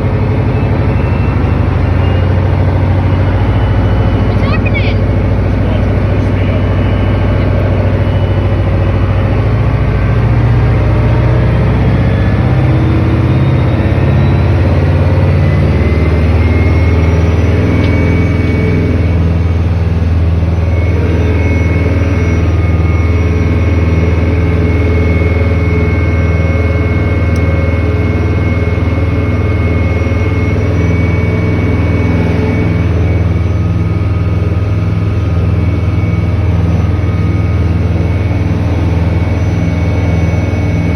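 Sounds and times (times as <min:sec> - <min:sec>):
boat motor running: 0:00.0 - 0:40.9
whine climbing in pitch: 0:00.0 - 0:40.9.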